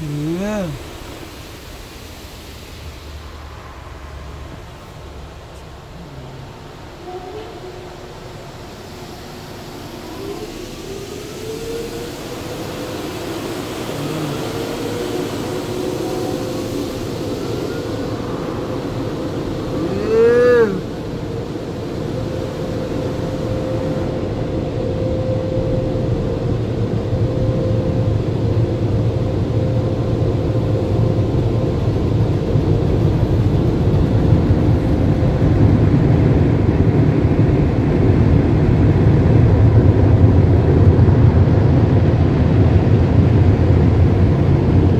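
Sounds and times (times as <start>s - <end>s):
car wash machinery running: 0.0s - 44.9s.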